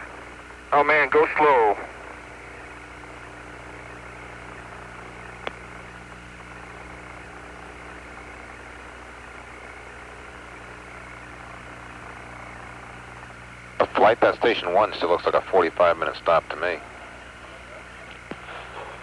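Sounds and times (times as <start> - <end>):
radio hiss and hum: 0.0 - 19.0.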